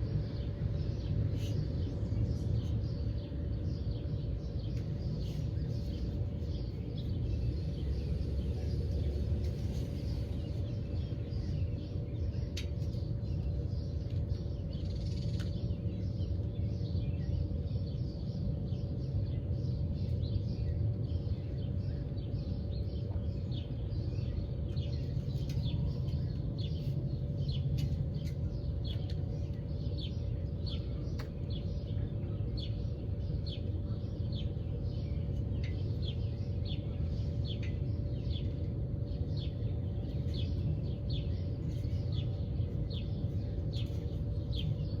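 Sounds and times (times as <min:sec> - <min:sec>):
birds chirping: 0:00.0 - 0:45.0
faint hum: 0:00.0 - 0:45.0.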